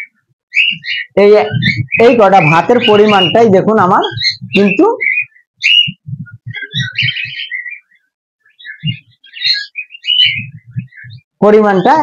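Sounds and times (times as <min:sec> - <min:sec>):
cockatiels chirping: 0:00.0 - 0:03.4, 0:04.0 - 0:11.2.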